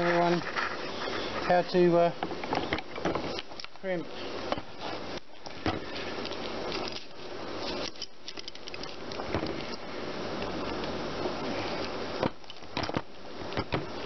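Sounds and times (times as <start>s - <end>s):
steady rustling noise: 0.0s - 14.0s.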